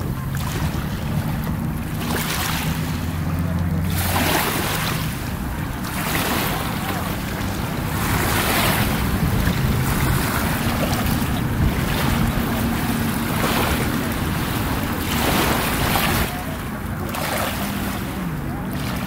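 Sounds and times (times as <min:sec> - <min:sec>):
distant boat engine hum: 0:00.0 - 0:19.0
small waves lapping on rocky shore: 0:00.0 - 0:19.0
wind rumbling on microphone: 0:00.0 - 0:19.0.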